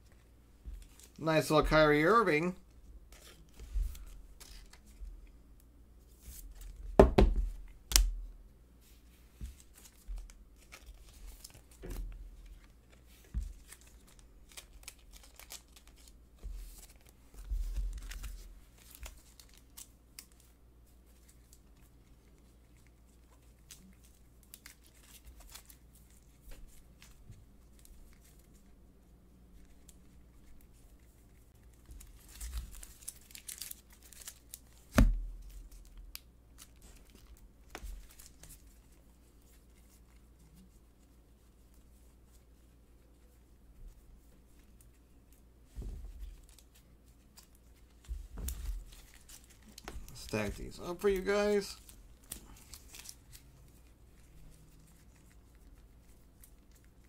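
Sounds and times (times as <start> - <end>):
plastic card sleeves rustling: 3.1 - 5.4, 8.8 - 28.7, 29.6 - 57.0.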